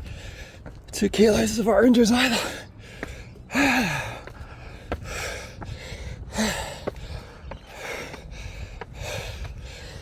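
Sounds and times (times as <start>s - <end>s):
man panting: 0.0s - 0.8s, 2.2s - 10.0s.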